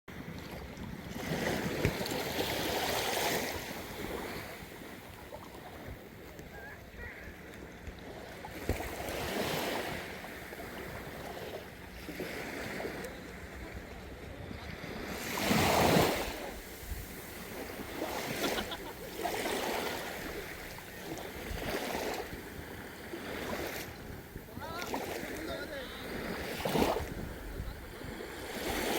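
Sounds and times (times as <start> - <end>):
small waves lapping: 0.1 - 28.9.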